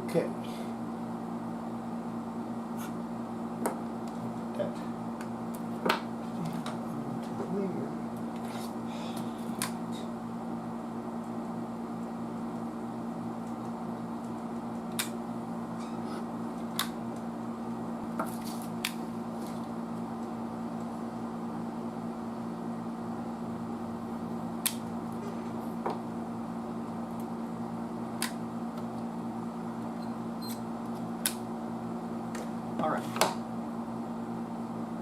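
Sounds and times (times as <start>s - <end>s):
steady electrical hum: 0.0s - 35.0s.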